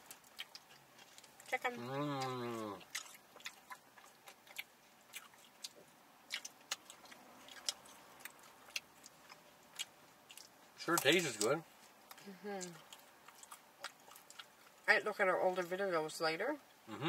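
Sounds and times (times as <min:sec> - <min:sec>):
people chewing spring rolls: 0:00.0 - 0:15.8.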